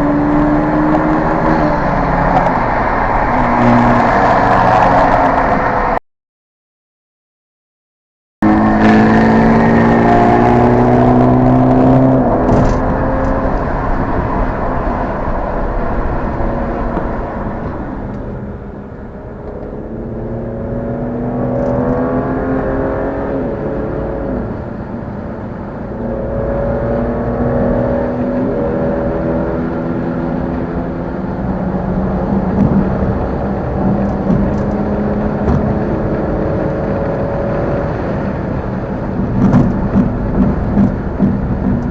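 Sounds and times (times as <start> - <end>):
car engine accelerating: 0.0 - 6.0, 8.4 - 41.9.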